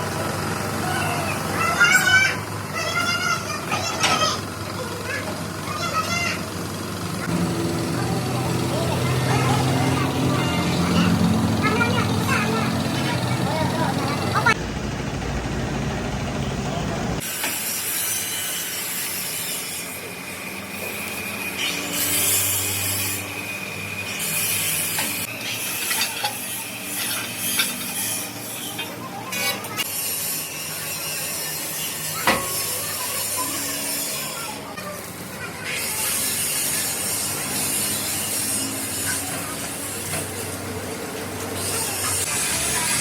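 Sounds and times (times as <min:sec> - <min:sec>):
rasping scraping workshop noise: 0:01.0 - 0:14.6, 0:17.2 - 0:43.0.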